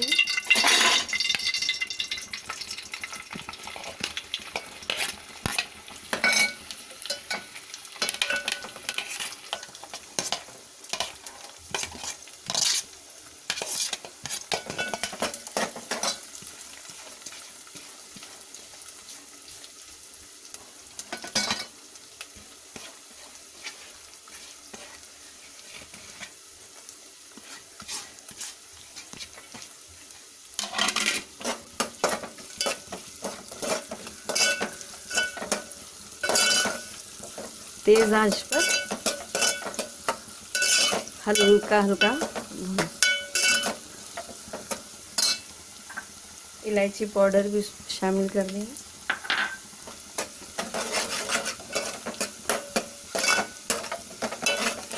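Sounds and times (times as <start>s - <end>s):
nuts sizzling in hot fat: 0.0s - 54.9s
spoon scraping a pan: 0.1s - 19.3s, 21.0s - 46.2s, 49.1s - 54.9s.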